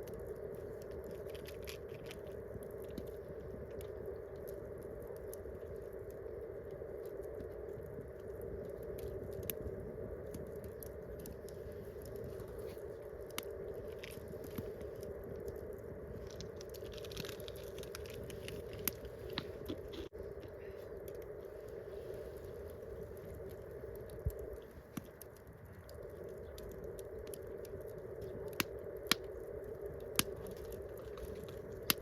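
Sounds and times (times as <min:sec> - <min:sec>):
campfire crackling and popping: 0:00.0 - 0:32.0
fire low hiss: 0:00.0 - 0:32.0.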